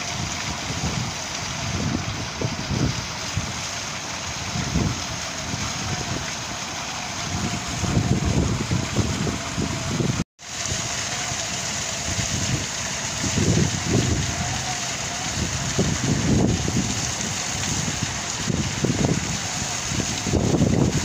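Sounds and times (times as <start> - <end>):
wind buffeting microphone: 0.0 - 10.9, 11.9 - 21.0
waterfall splashing into pond: 0.0 - 21.0.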